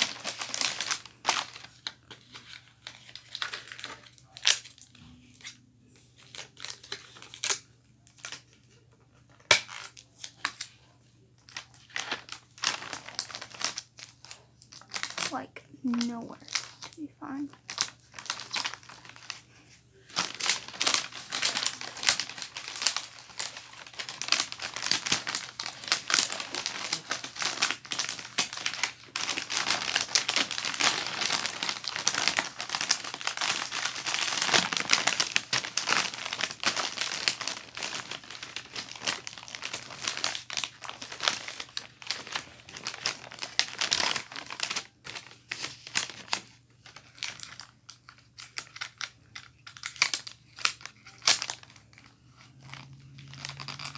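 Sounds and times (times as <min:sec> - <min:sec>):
wrapping paper crinkling: 0:00.0 - 0:53.9.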